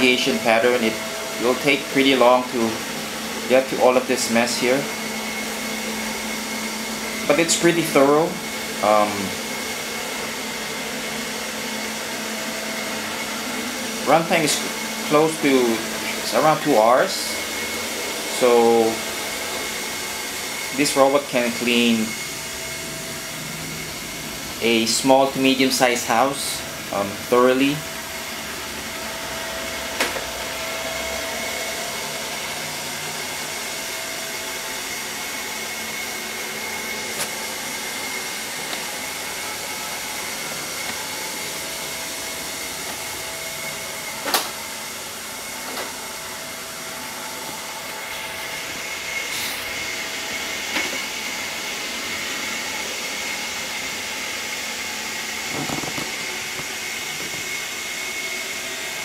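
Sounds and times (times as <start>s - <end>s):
robot vacuum running: 0.1s - 59.0s.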